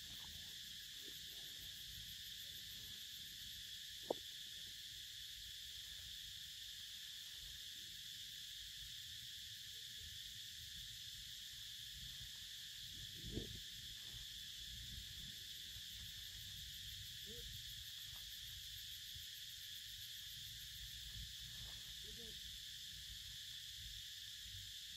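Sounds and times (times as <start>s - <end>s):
insect chorus drone: 0.0s - 24.9s.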